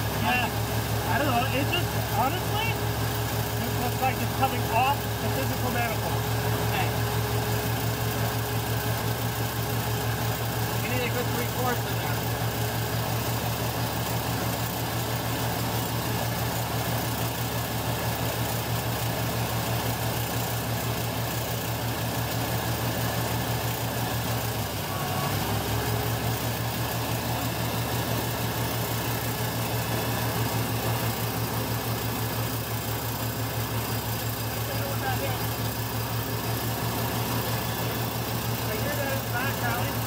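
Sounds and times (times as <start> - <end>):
engine running at fast idle: 0.0 - 40.0.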